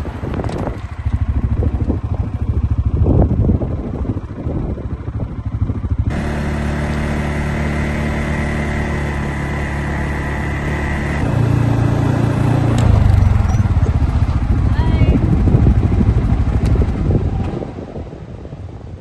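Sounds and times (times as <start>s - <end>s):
small vehicle engine running: 0.0s - 18.8s.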